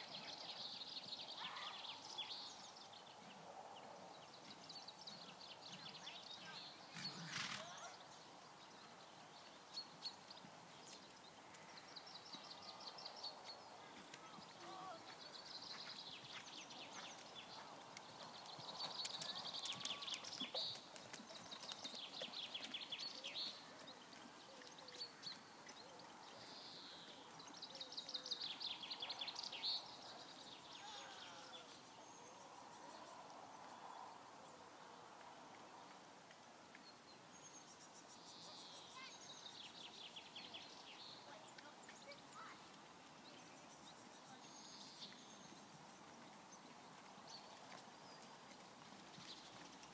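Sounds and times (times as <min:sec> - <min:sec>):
faint outdoor background: 0:00.0 - 0:49.9.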